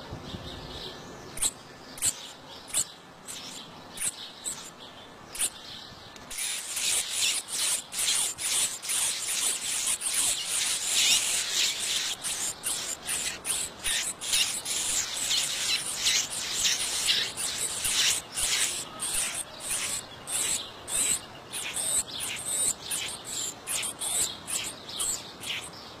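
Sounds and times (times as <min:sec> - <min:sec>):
nestlings begging calls: 0:01.4 - 0:25.8.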